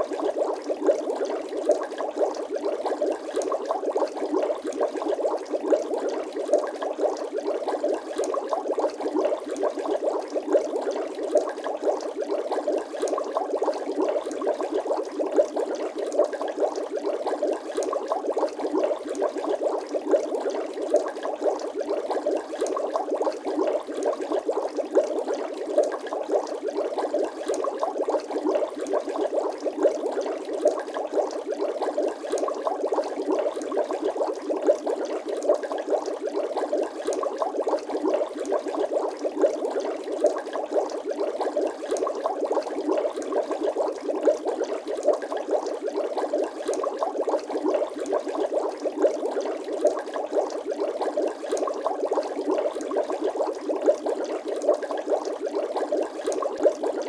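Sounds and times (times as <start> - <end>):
water bubbling and gurgling: 0.0 - 57.0.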